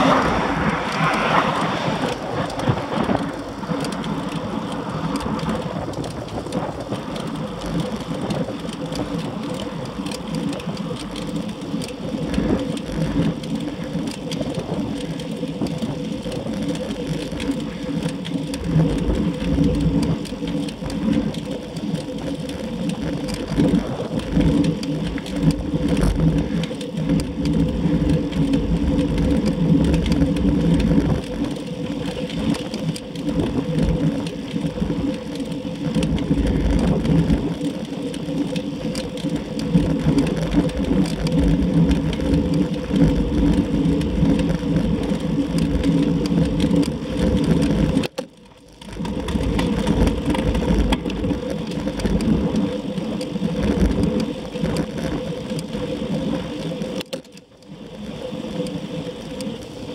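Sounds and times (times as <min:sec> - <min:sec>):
wind rushing over microphone: 0:00.0 - 0:48.1, 0:48.8 - 0:57.0
bicycle tyre roar: 0:00.0 - 0:59.9.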